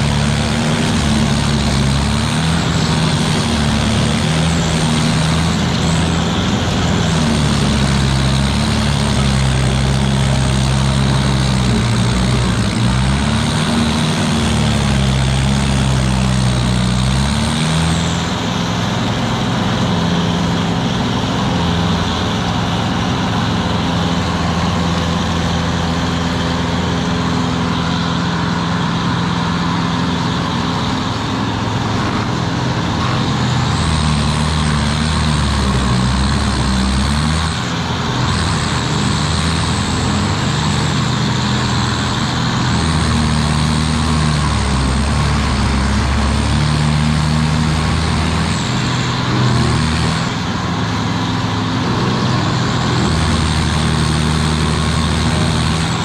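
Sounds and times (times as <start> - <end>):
stump grinder grinding wood: 0.0 - 56.0.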